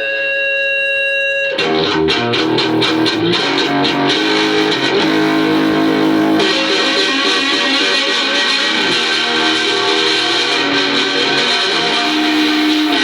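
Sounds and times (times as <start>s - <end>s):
electric guitar playing blues-rock: 0.0s - 13.0s.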